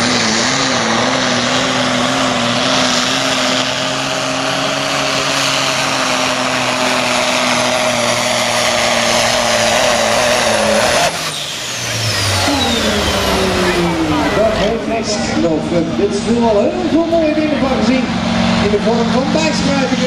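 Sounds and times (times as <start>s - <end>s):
truck diesel engine revving: 0.0s - 20.0s.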